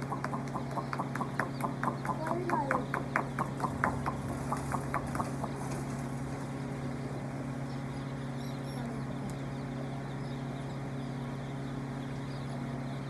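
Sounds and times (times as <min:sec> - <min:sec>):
chicks peeping: 0:00.0 - 0:13.0
low mechanical hum: 0:00.0 - 0:13.0.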